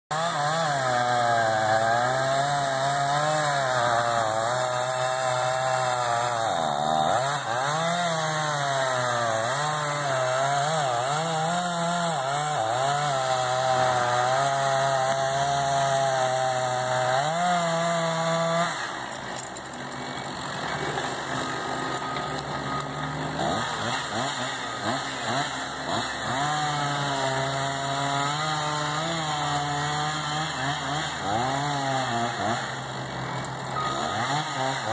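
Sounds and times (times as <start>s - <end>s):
chainsaw cutting tree: 0.1s - 34.9s.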